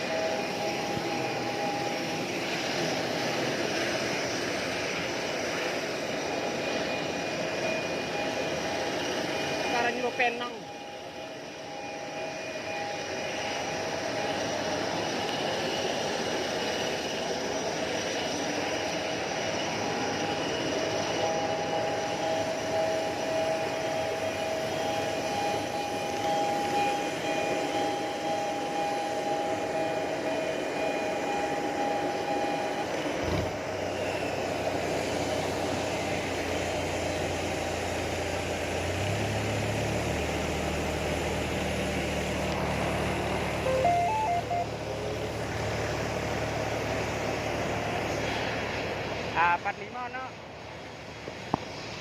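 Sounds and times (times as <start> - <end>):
jet airliner engine whine: 0.0 - 52.0.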